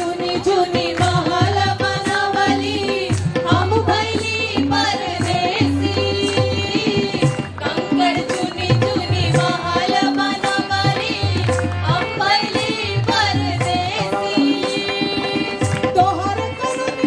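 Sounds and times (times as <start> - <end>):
chorus of men and women singing: 0.0 - 15.9
held harmonium notes: 0.0 - 17.0
tabla rhythm: 0.0 - 17.0.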